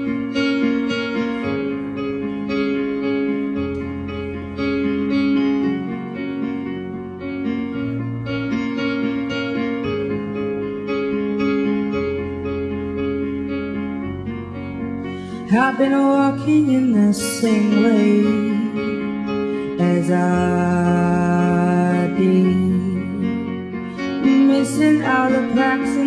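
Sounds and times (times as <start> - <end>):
bass notes: 0.0 - 25.3
slow repeating melody: 0.0 - 26.0.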